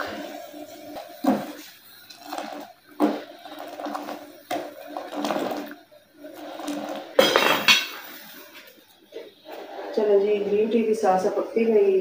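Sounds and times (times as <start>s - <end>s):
ladle scraping in saucepan: 0.0s - 10.6s
tea boiling: 0.0s - 12.0s.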